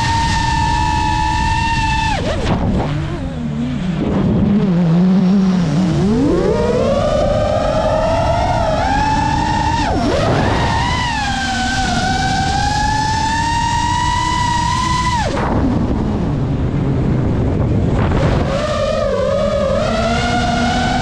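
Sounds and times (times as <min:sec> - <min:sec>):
drone motors whining: 0:00.0 - 0:21.0
low rushing noise: 0:00.0 - 0:21.0.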